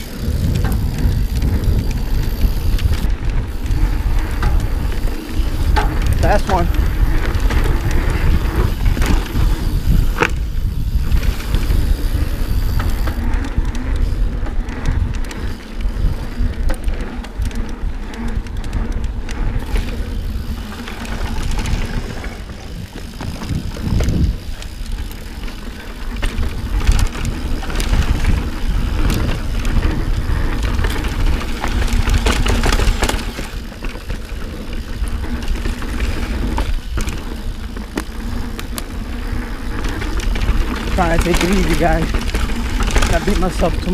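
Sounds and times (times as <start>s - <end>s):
bike knocks and rattles: 0.0s - 43.9s
wind rumble on microphone: 0.0s - 43.9s.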